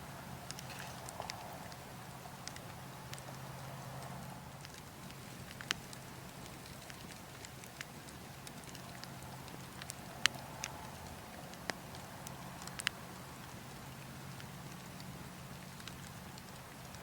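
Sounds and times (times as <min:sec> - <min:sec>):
wood fire crackling and popping: 0:00.1 - 0:17.0.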